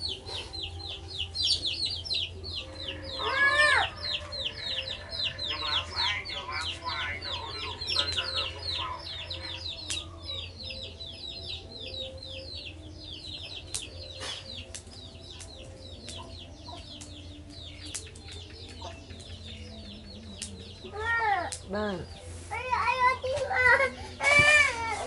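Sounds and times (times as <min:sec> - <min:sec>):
chicks peeping: 0:00.0 - 0:23.2.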